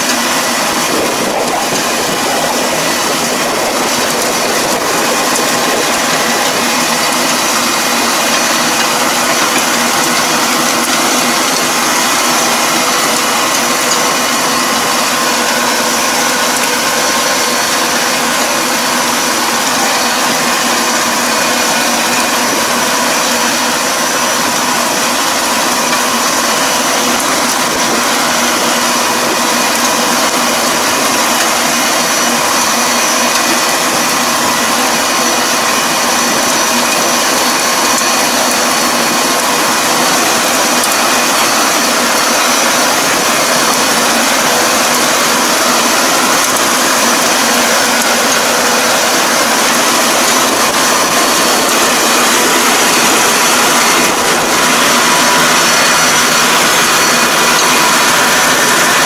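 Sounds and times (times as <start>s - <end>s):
harrow churning mud: 0.0s - 59.0s
tractor engine running under load: 0.0s - 59.0s.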